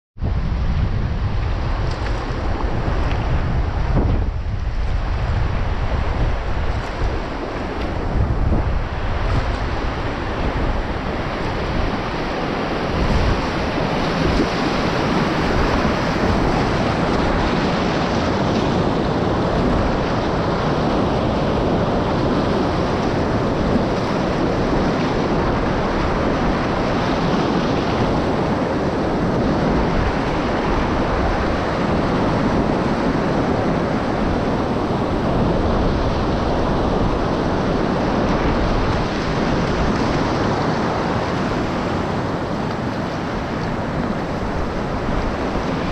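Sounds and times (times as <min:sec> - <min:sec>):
wind rumble on microphone: 0:00.2 - 0:45.9
river rapid rushing: 0:00.3 - 0:45.9.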